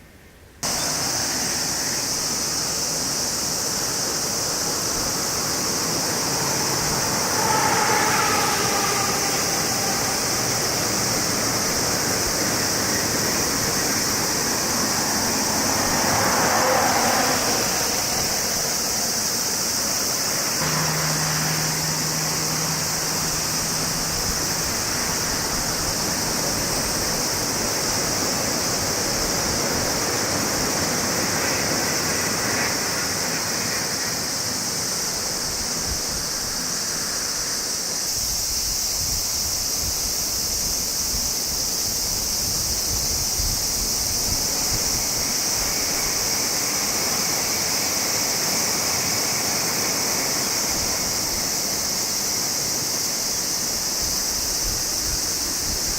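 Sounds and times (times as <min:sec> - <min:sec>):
high hiss: 0:00.0 - 0:55.9
high-speed train rushing: 0:00.6 - 0:55.9.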